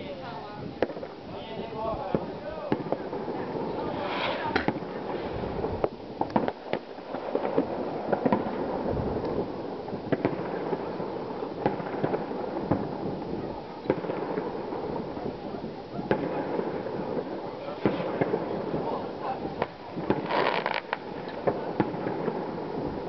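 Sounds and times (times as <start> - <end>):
crackling rumble of fireworks: 0.0 - 23.0
distant firework bangs: 0.0 - 23.0.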